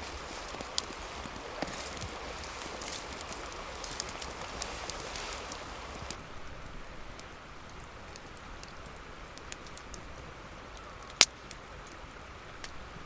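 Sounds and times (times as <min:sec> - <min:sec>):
campfire crackling: 0:00.0 - 0:13.0
fire popping: 0:00.0 - 0:13.0.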